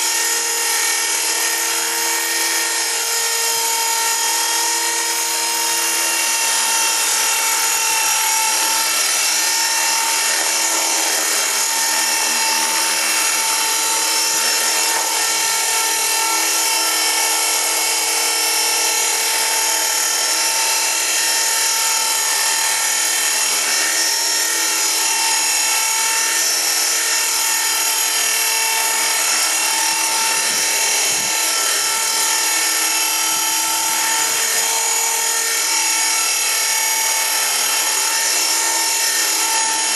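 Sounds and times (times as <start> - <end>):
electric motor whine: 0.0 - 39.9
rotor blades rushing: 3.2 - 25.8, 26.4 - 39.9.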